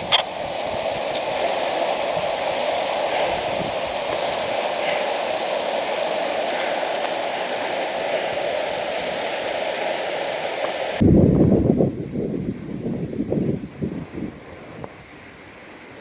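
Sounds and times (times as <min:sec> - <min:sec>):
underground stream rushing: 0:00.0 - 0:16.0
wind buffeting microphone: 0:00.0 - 0:16.0.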